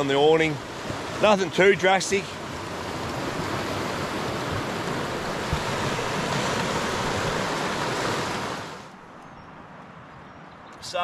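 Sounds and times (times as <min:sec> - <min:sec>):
river water rushing: 0:00.0 - 0:09.0.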